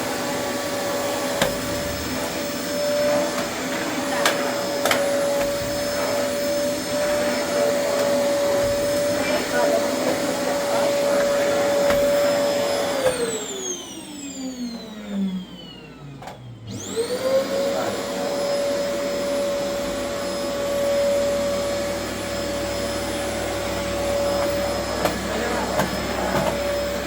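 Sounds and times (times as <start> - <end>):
electric motor whining: 0.1 - 27.0.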